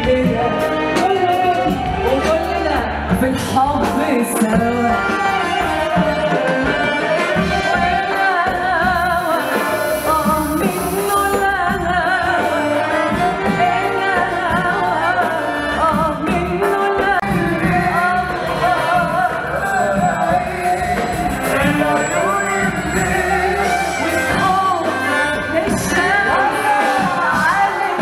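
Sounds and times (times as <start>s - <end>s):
live band with keyboard and accordion: 0.0s - 28.0s
woman singing into a microphone: 0.0s - 28.0s.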